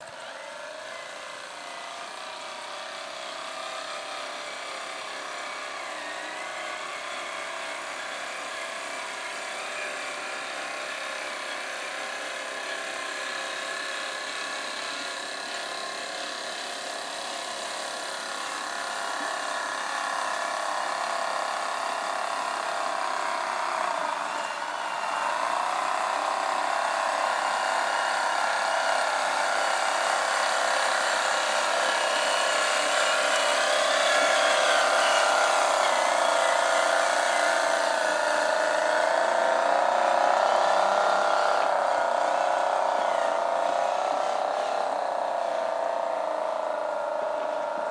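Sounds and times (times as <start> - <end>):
toy truck motor whining: 0.0 - 47.9.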